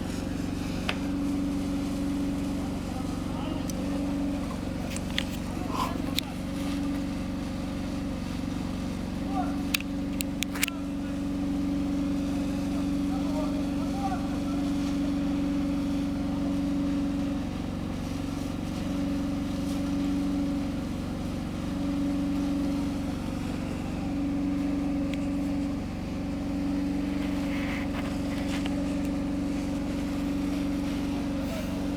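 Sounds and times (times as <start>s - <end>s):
engine droning: 0.0s - 31.9s.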